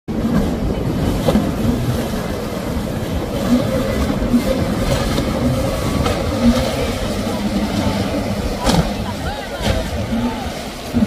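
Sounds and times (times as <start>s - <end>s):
outboard motor running: 0.1s - 11.0s
water rushing off hull: 0.1s - 11.0s.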